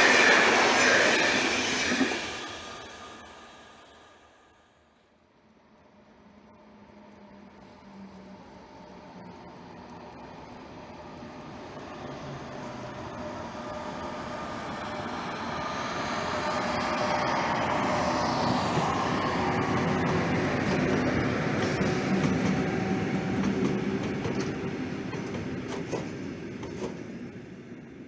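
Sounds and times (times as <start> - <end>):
freight train rumble and wheel clatter: 0.0 - 4.2, 5.9 - 28.0.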